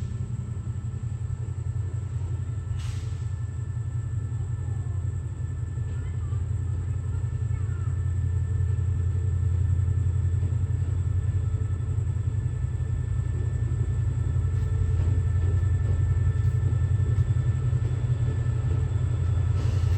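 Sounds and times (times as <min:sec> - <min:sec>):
diesel train rumbling: 0:00.0 - 0:19.9.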